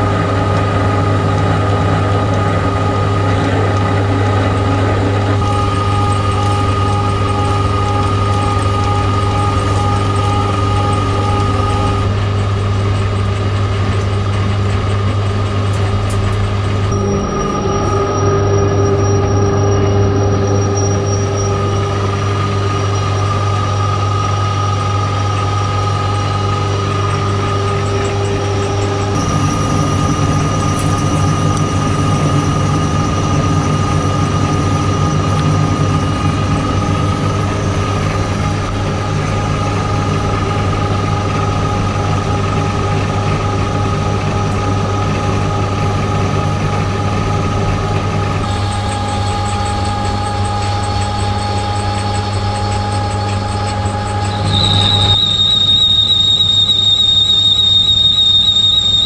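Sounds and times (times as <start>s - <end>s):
high drive whine: 0.0s - 59.0s
metal lathe humming: 0.0s - 59.0s.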